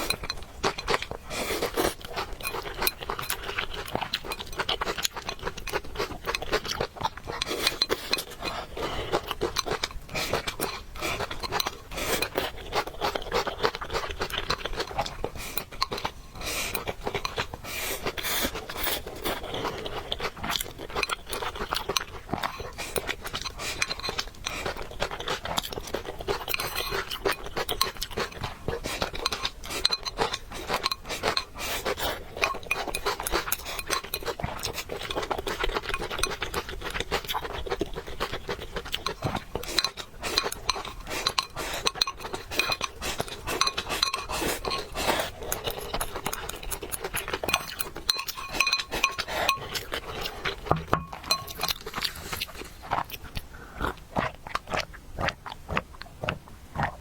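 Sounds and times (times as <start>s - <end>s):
cutlery clinking against a dish: 0.0s - 16.1s, 20.4s - 52.4s.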